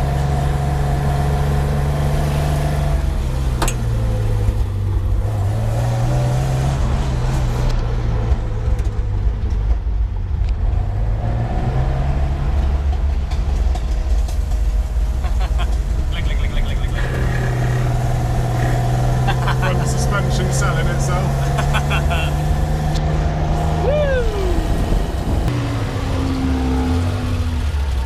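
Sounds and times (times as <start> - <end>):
racing car engines: 0.0 - 28.0.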